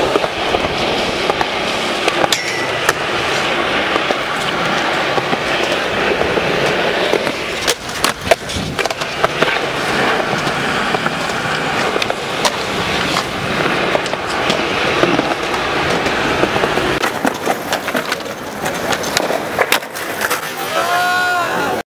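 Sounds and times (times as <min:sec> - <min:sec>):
skateboard clacking: 0:00.0 - 0:21.8
skateboard wheels rolling on concrete: 0:00.0 - 0:21.8.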